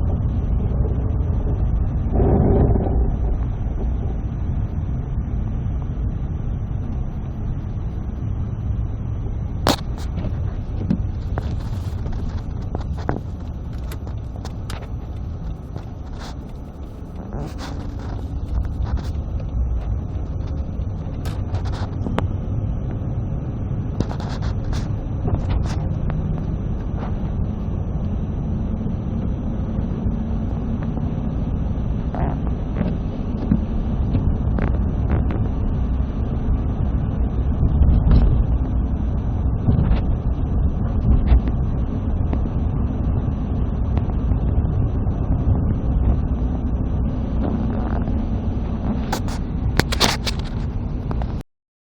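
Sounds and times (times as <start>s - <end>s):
engine and tyre rumble: 0.0s - 51.4s.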